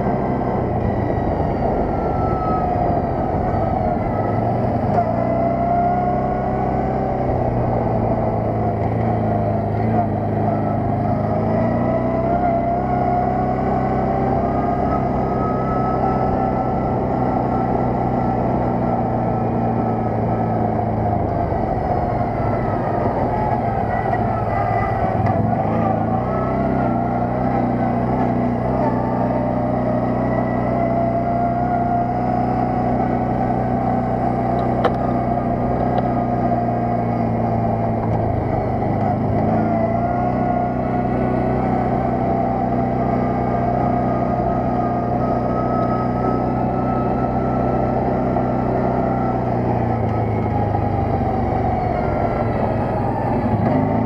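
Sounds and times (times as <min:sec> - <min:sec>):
quad bike engine running: 0:00.0 - 0:54.0.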